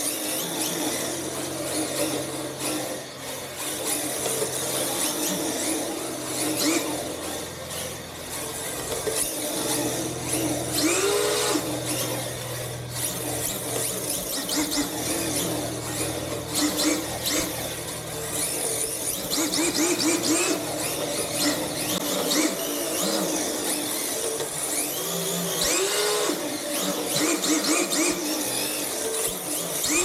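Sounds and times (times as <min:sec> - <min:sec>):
small electric motor whining: 0:00.0 - 0:30.0.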